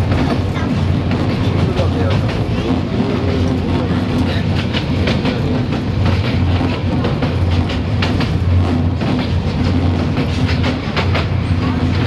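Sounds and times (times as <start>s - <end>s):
train rumble: 0.0s - 12.0s
wheels clattering over rails: 0.0s - 12.0s.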